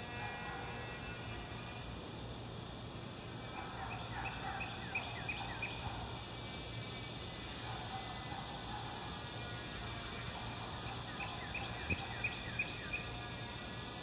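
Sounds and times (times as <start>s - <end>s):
high insect hiss: 0.0s - 14.0s.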